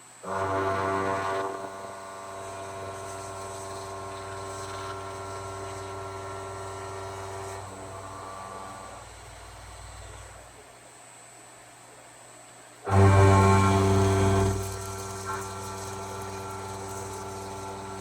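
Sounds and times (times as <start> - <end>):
milling spindle whine: 0.0 - 10.6, 12.9 - 18.0.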